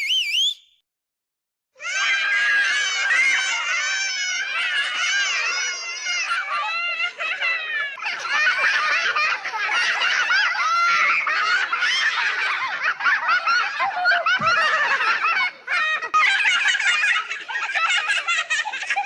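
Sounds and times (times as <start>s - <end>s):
high-pitched voices laughing: 1.8s - 19.0s.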